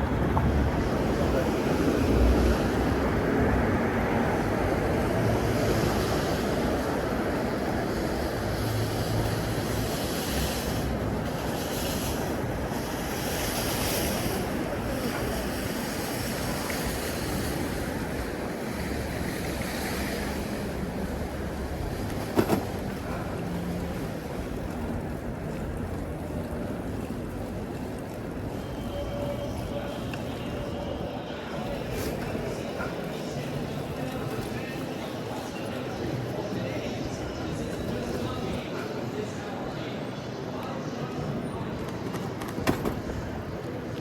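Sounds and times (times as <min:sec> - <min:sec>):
passing traffic: 0:00.0 - 0:44.0.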